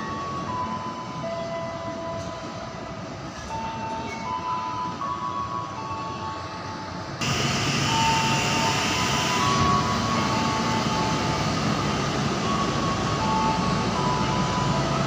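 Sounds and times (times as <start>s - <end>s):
train rushing on rails: 0.0s - 15.0s.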